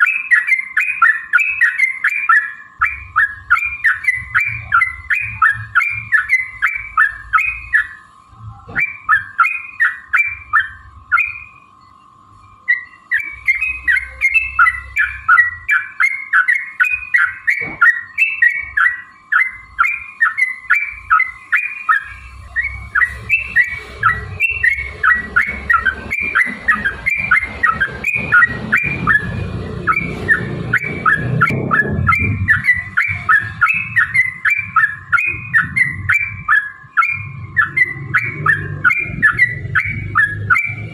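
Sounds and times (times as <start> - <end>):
bird singing bubbly chirps: 0.0 - 40.9.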